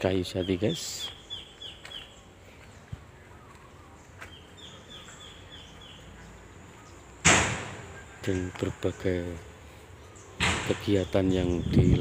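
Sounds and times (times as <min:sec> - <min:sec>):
bird singing: 0:00.0 - 0:12.0
faint outdoor hiss: 0:00.0 - 0:12.0.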